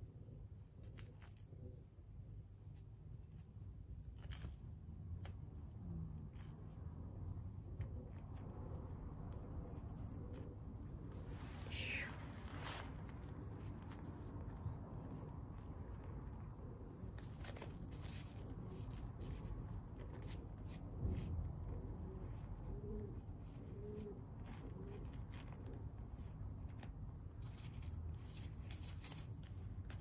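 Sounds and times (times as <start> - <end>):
fabric crackling and rustling: 2.7 - 30.0.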